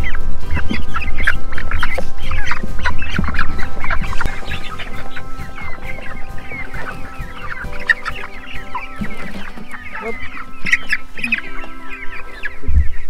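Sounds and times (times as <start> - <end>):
young chickens calling: 0.0 - 13.0.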